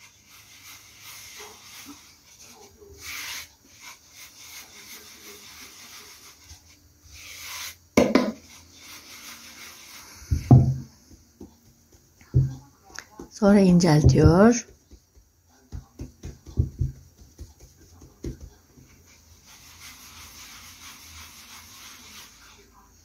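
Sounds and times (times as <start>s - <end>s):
bread board scraping on cloth: 0.0s - 11.6s, 15.7s - 22.7s.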